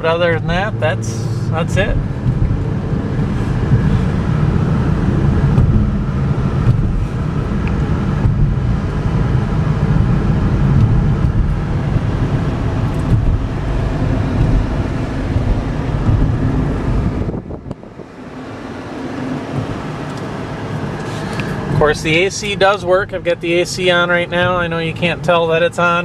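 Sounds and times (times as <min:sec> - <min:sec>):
car engine running: 0:00.0 - 0:26.0
tyre and road noise: 0:00.0 - 0:26.0.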